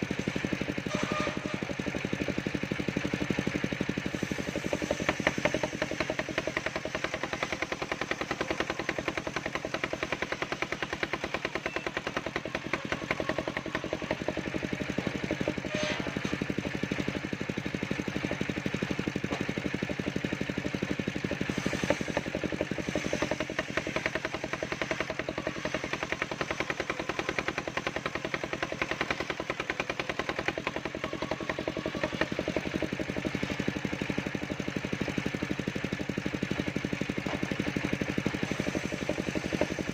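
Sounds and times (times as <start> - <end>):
sawmill engine chugging: 0.0 - 39.9.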